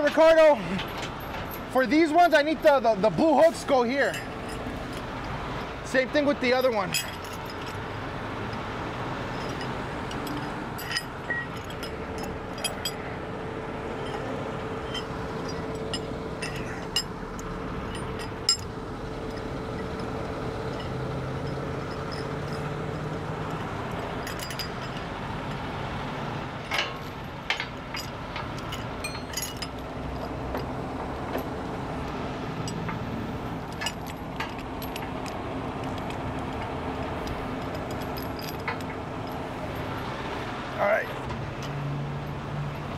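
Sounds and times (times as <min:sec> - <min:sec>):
metal chains clinking: 0:00.0 - 0:05.3, 0:05.9 - 0:07.9, 0:09.2 - 0:13.1, 0:13.9 - 0:25.7, 0:26.6 - 0:31.5, 0:32.6 - 0:40.1
vehicles running hum: 0:00.0 - 0:42.9.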